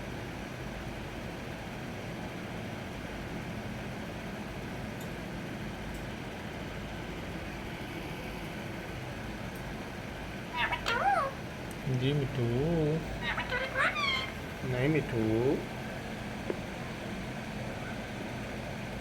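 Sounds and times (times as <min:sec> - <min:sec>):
low background rumble and hiss: 0:00.0 - 0:19.0.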